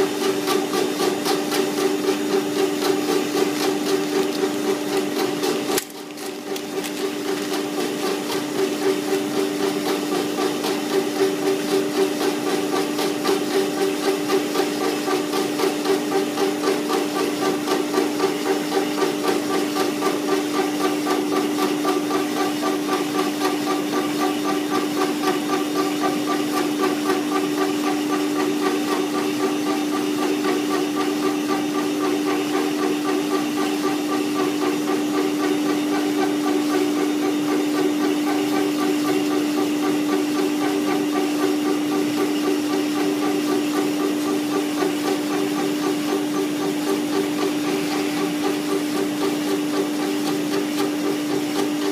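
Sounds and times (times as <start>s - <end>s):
machine motor hum: 0.0s - 51.9s.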